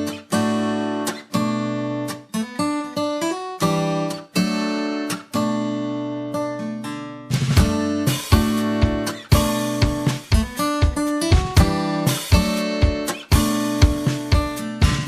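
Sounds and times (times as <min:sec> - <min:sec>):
plucked guitar notes: 0:00.0 - 0:15.0
strummed acoustic guitar: 0:00.0 - 0:15.0.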